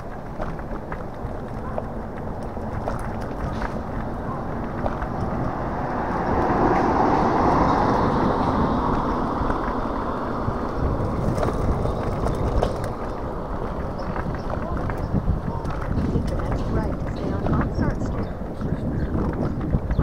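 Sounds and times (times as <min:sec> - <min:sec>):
rolling tyre noise: 0:00.0 - 0:20.0
wind rushing over microphone: 0:00.0 - 0:20.0.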